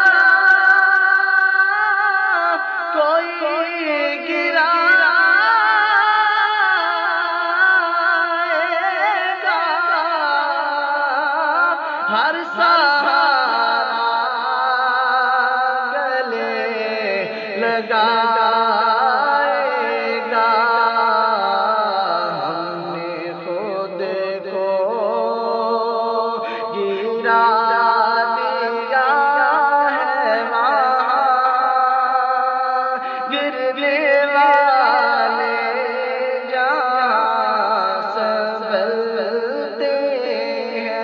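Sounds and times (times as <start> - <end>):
man singing unaccompanied: 0.0 - 41.0.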